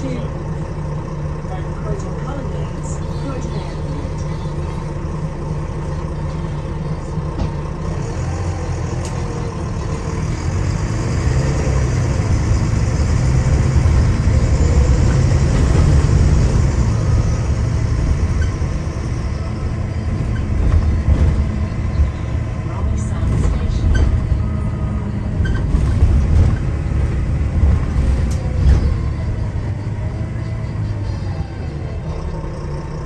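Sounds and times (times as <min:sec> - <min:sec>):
bus diesel engine accelerating: 0:00.0 - 0:33.0.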